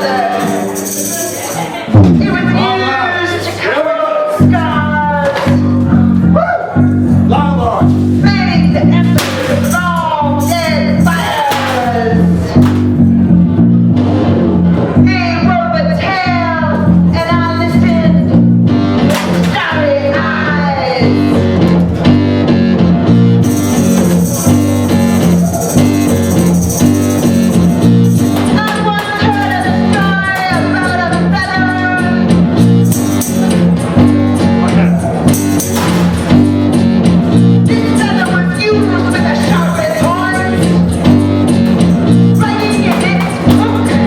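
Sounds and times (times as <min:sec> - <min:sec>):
sliding guitar notes: 0:00.0 - 0:03.7, 0:04.4 - 0:44.0.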